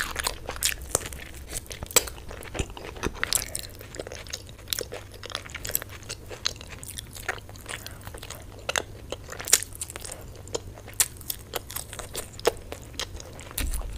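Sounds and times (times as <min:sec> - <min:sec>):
chewing and biting meat: 0:00.0 - 0:13.9.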